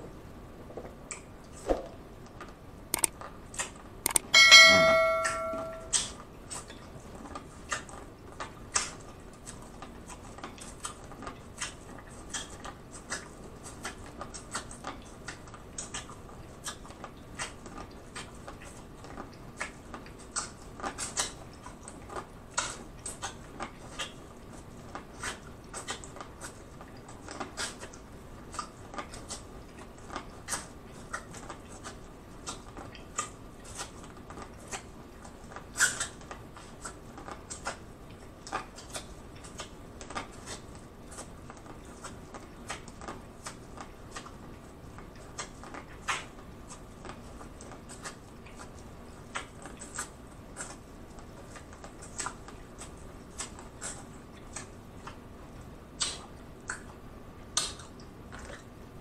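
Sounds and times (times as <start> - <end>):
biting and chewing corn: 3.0 - 4.3, 5.9 - 58.7.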